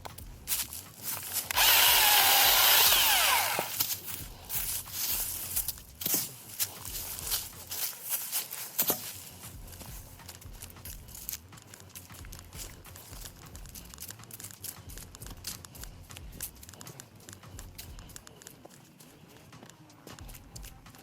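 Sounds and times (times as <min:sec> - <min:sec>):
crackling and rustling: 0:00.0 - 0:21.0.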